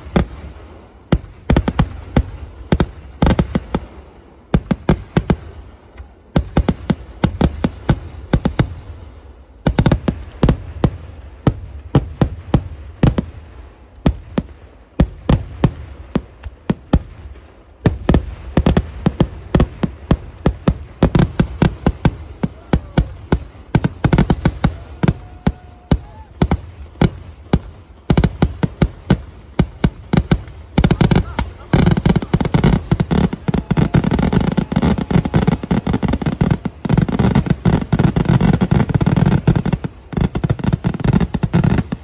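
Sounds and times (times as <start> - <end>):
fireworks bangs and crackling: 0.0 - 42.0.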